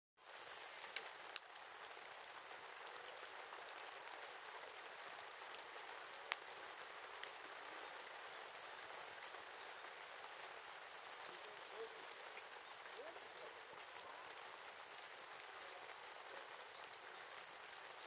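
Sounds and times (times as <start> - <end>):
wood fire crackling: 0.2 - 18.0.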